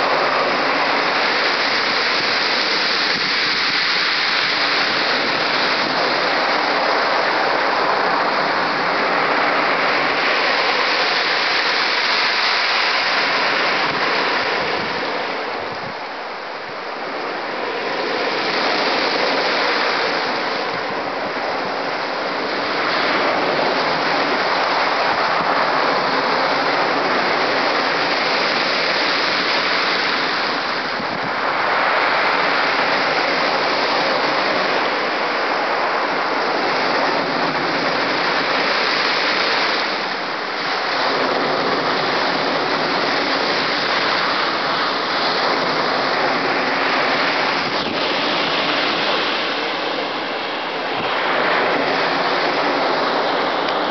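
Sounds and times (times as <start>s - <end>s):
surf breaking on shingle beach: 0.0s - 53.9s.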